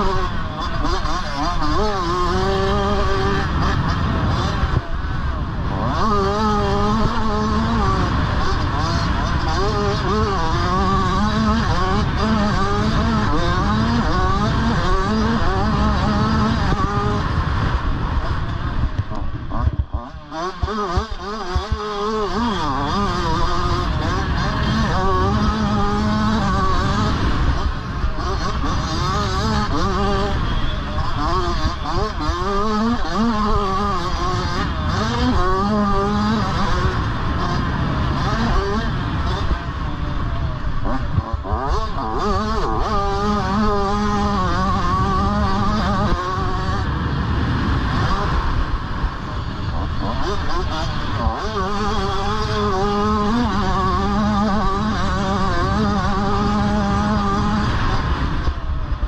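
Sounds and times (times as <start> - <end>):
motocross bike engine revving: 0.0 - 59.0
wind rumble on microphone: 0.0 - 59.0.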